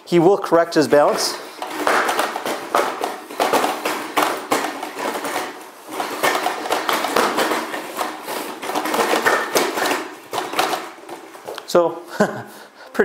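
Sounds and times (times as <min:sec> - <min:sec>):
robot feet stamping on wooden floor: 0:00.9 - 0:11.8.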